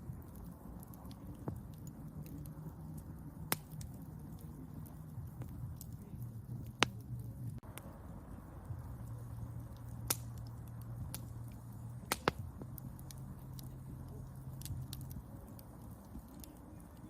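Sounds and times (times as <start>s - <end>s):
low steady rumble: 0.0s - 17.0s
wood fire crackling and popping: 0.0s - 17.0s.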